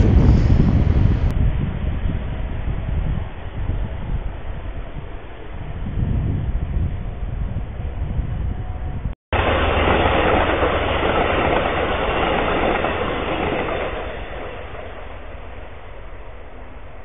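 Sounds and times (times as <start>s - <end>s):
train wheels rushing on rail: 0.0s - 17.0s
wind rumbling on microphone: 0.0s - 17.0s.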